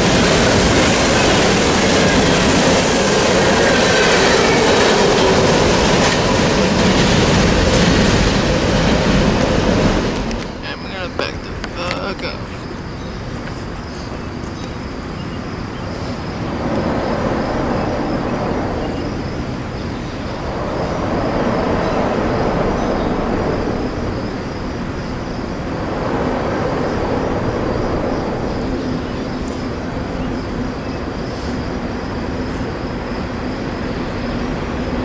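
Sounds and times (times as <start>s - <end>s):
low noisy rumble: 0.0s - 35.0s.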